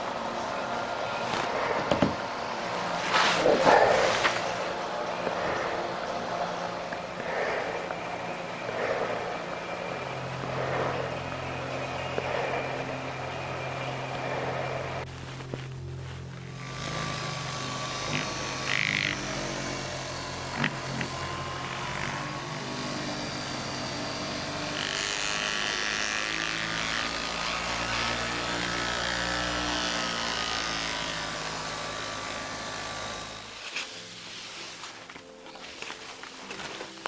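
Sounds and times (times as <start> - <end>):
orbit sander buzzing whine: 0.0 - 37.0.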